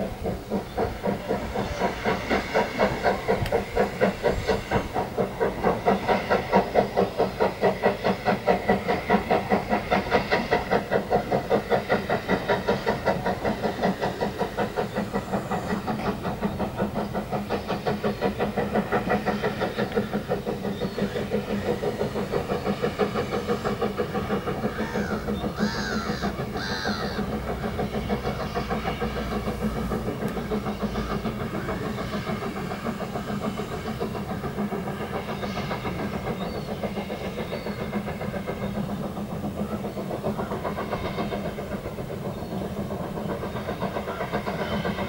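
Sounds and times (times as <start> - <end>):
steam locomotive chuffing: 0.0 - 45.0.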